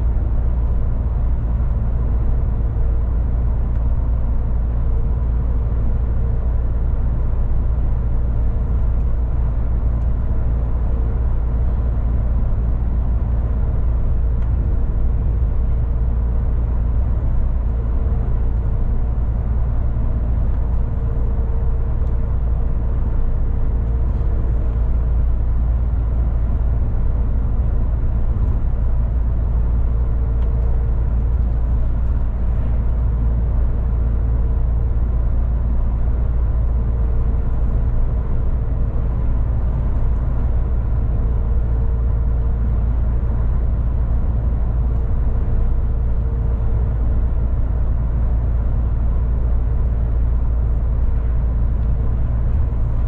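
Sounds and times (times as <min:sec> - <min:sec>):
truck engine and road rumble: 0:00.0 - 0:53.0.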